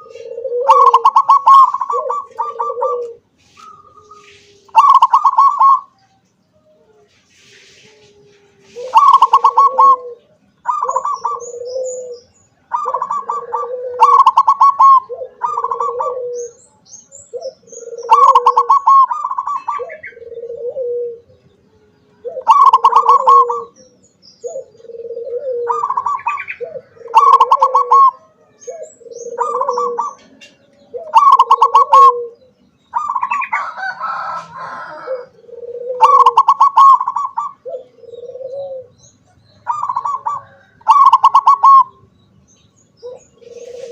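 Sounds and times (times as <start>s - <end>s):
dove cooing: 0.0s - 42.1s, 42.9s - 43.9s
small birds chirping: 0.0s - 43.9s.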